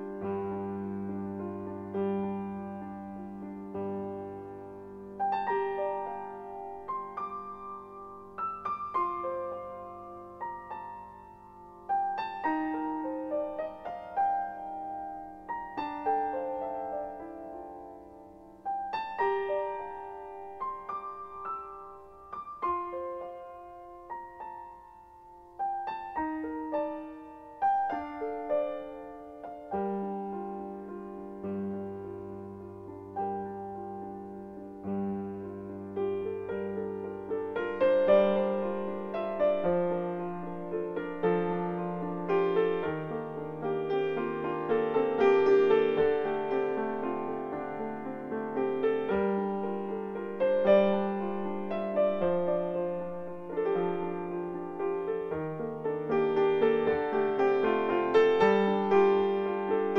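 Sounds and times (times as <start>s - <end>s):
slow gentle piano music: 0.0s - 59.9s.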